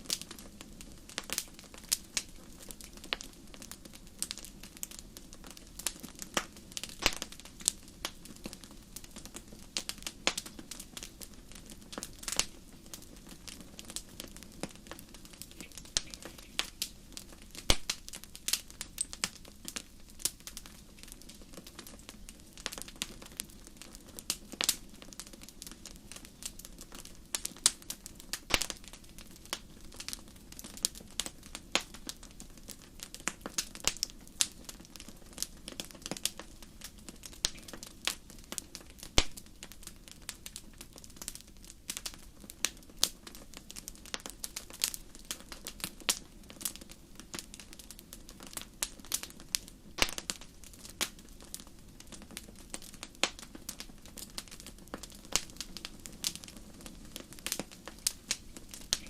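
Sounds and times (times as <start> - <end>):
soft low hiss: 0.0 - 59.0
wood fire crackling and popping: 0.0 - 59.0.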